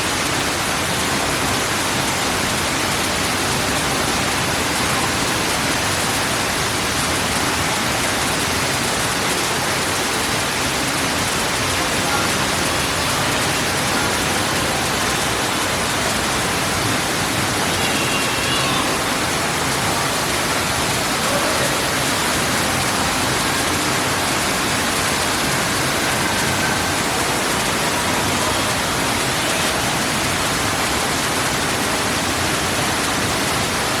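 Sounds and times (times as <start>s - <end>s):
water falling into a pool: 0.0s - 34.0s.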